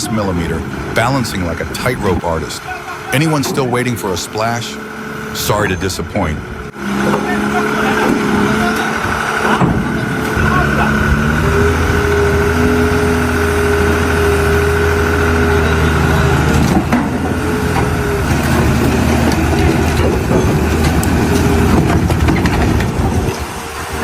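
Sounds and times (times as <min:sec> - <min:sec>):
large vehicle engine running: 0:00.0 - 0:24.0.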